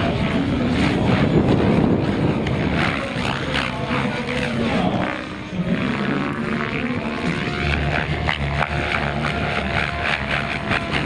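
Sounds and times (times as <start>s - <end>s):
rc helicopter rotor and motor: 0.0s - 11.0s
wind rumble on microphone: 0.0s - 11.0s.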